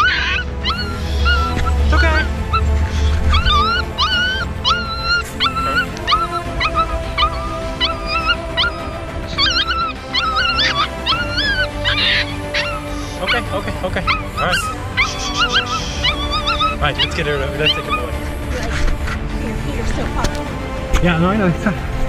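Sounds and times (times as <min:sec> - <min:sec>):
puppy whining and squealing: 0:00.0 - 0:18.8
background music: 0:00.0 - 0:22.0.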